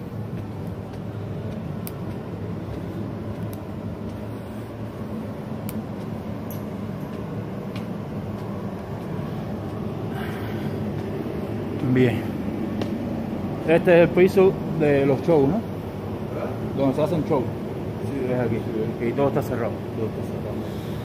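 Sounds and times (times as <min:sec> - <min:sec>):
building machinery hum: 0:00.0 - 0:21.0.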